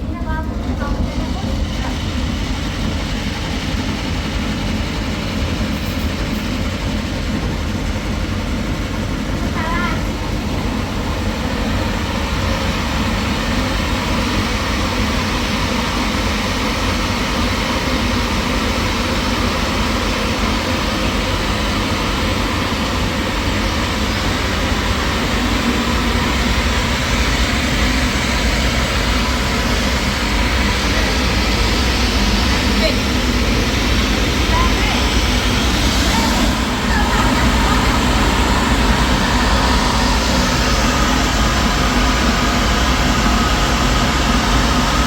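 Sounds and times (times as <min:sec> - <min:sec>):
heavy machinery drone: 0:00.0 - 0:45.0.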